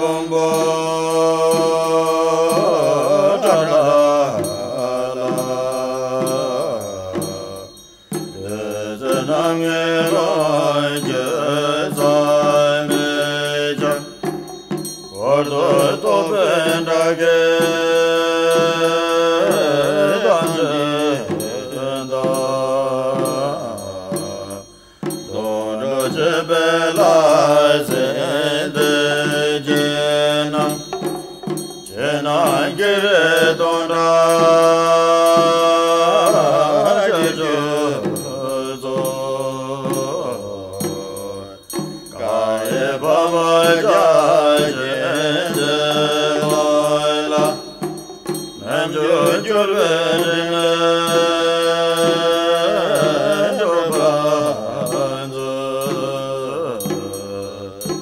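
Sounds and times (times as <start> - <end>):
person chanting melodically: 0.0 - 58.0.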